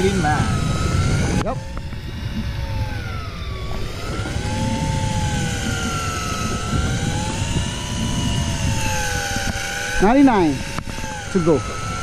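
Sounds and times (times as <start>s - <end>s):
electric fishing reel motor whining: 0.0s - 12.0s
low wind: 0.0s - 12.0s
sea rumble: 0.0s - 12.0s.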